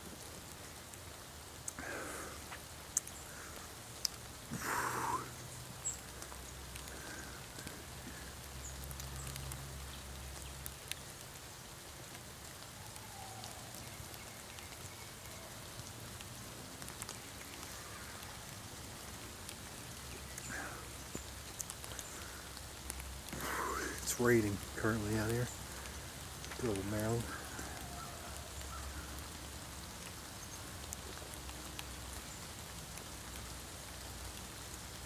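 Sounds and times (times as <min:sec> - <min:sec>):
raindrops dripping: 0:00.0 - 0:35.0
steady rain falling: 0:00.0 - 0:35.0.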